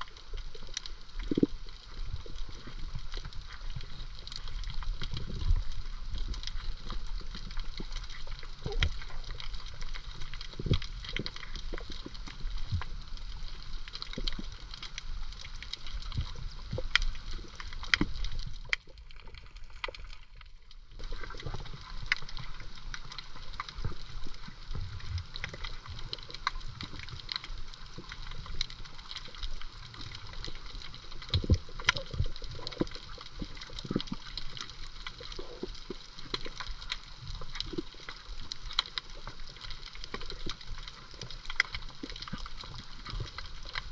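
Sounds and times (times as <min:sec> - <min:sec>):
crackle of small clicks: 0:00.0 - 0:43.9
water moving and gurgling: 0:00.0 - 0:43.9.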